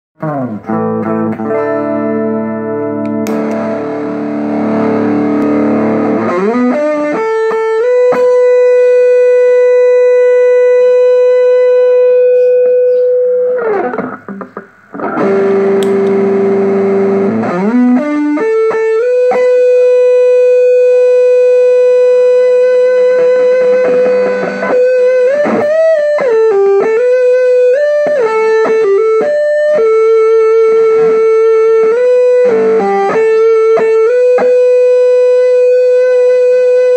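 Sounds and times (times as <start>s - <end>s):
overdriven electric guitar chords: 0.2s - 36.9s
sustained guitar notes with vibrato: 0.2s - 36.9s.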